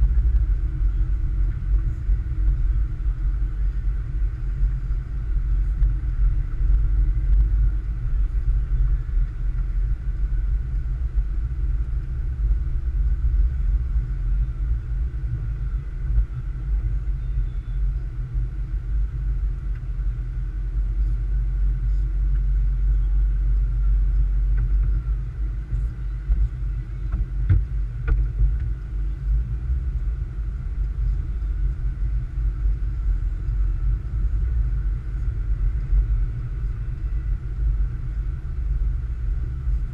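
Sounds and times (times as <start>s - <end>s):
engine and road noise rumble: 0.0s - 39.9s
faint steady whine: 0.0s - 39.9s.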